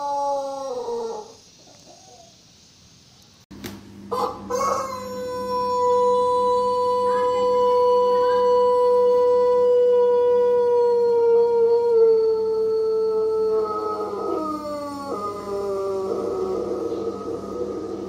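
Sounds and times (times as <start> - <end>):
rooster crowing: 0.0 - 1.4, 4.1 - 18.0.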